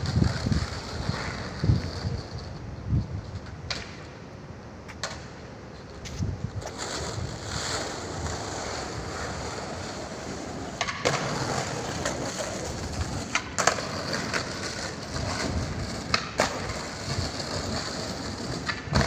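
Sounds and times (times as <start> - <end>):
skateboard clacks: 0.0 - 4.2, 4.9 - 19.0
skateboard wheels rolling on paving: 0.0 - 19.0.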